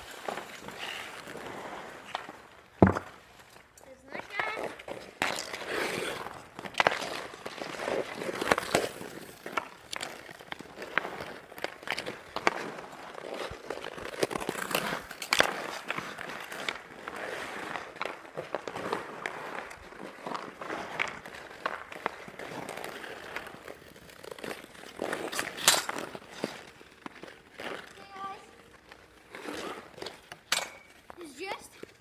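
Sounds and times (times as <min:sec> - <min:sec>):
hockey sticks clacking: 0:00.0 - 0:32.0
skate blades scraping ice: 0:00.0 - 0:32.0.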